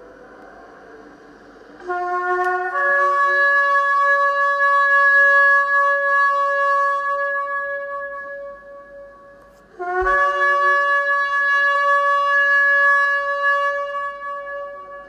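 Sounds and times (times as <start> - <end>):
shofar blast: 1.8 - 15.0.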